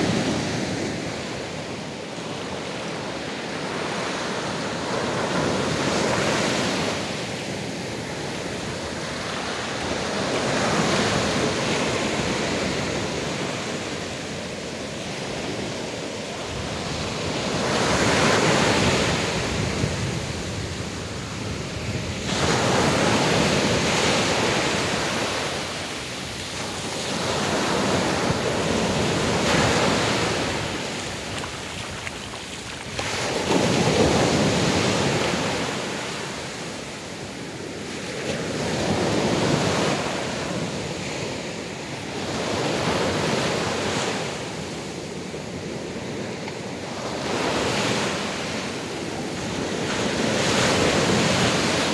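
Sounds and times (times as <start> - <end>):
waves breaking on sandy beach: 0.0 - 51.9.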